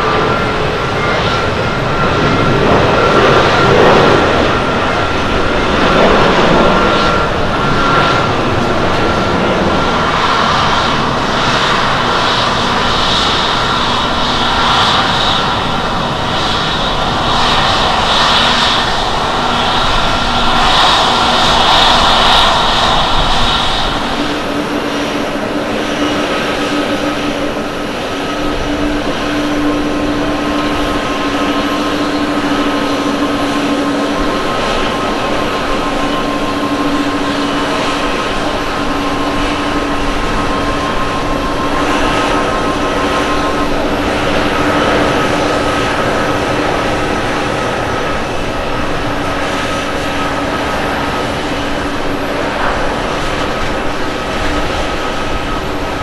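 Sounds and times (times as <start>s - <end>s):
jet engines at takeoff: 0.0s - 56.0s
turbofan drone and whine: 0.0s - 56.0s.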